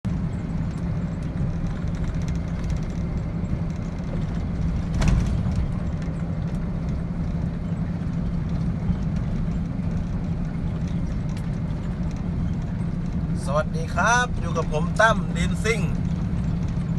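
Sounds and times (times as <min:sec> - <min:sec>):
truck engine droning: 0:00.1 - 0:16.9.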